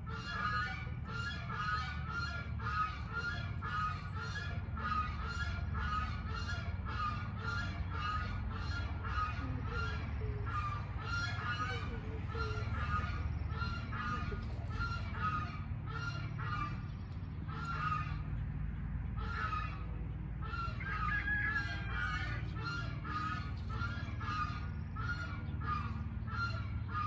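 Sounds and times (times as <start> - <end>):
bird calling rhythmically: 0.0 - 18.5, 19.1 - 27.0
steady low hum: 0.0 - 27.0.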